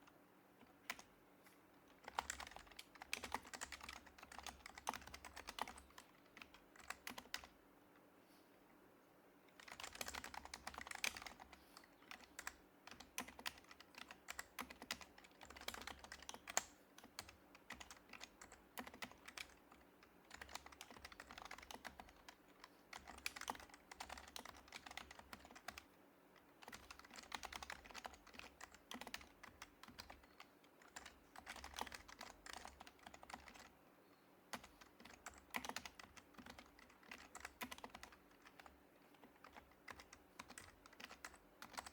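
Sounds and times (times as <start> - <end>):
soft keyboard typing: 0.0 - 7.6, 9.5 - 41.9.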